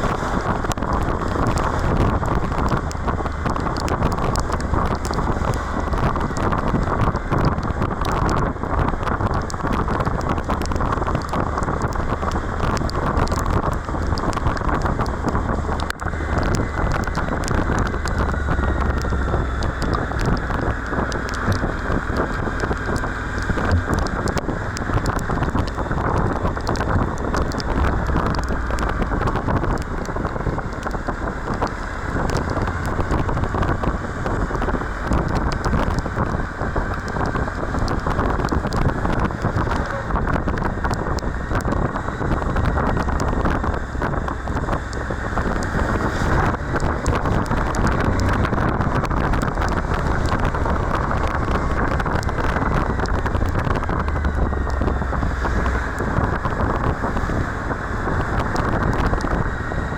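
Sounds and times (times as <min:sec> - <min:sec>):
motorcycle rumble: 0:00.0 - 0:59.9
wind buffeting microphone: 0:00.0 - 0:59.9.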